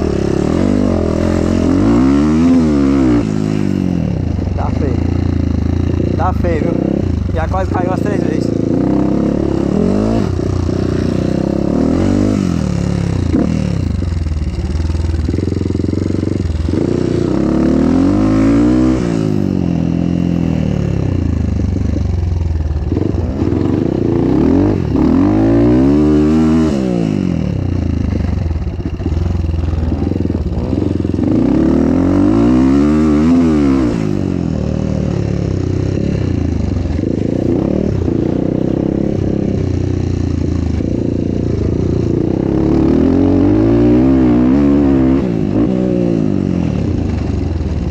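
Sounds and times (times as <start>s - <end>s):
motocross motorcycle revving: 0.0s - 47.9s
motorcycle engine humming nearby: 0.0s - 47.9s.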